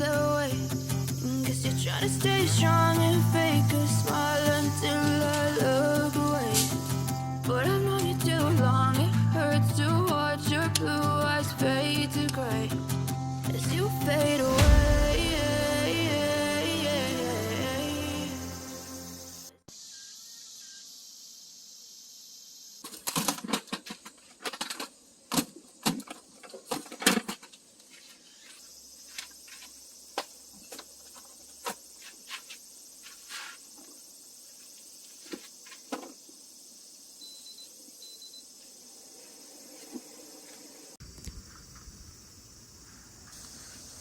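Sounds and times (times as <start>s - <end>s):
steady high hiss: 0.0s - 23.1s, 27.7s - 44.0s.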